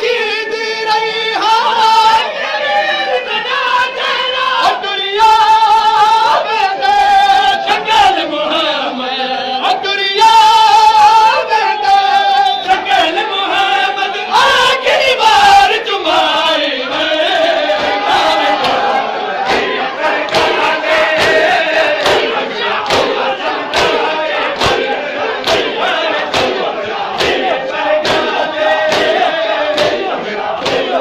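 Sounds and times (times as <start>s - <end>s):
men singing a mourning lament: 0.0s - 31.0s.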